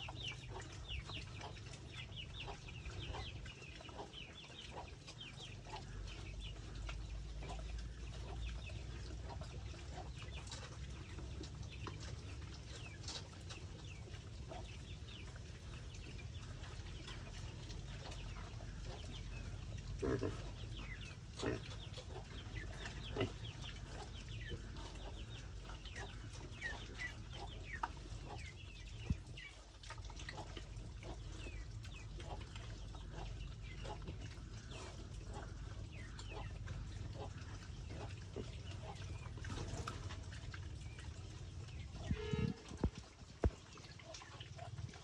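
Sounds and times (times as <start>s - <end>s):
farm animals calling and squeaking: 0.0s - 45.0s.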